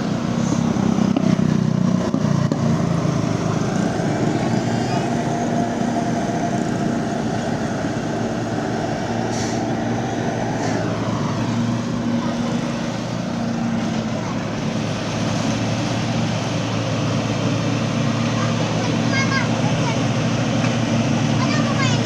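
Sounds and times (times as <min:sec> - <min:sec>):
heavy vehicle engine running: 0:00.0 - 0:22.0
road traffic noise: 0:00.0 - 0:22.0.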